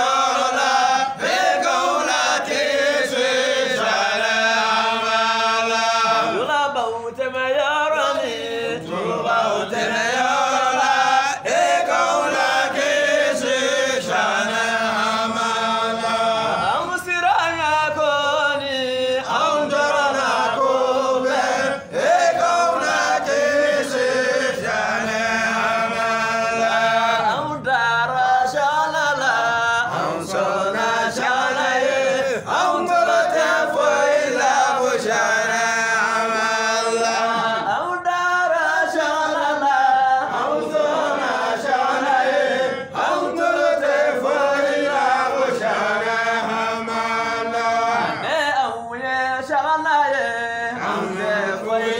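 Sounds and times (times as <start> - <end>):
men chanting unaccompanied: 0.0 - 51.9.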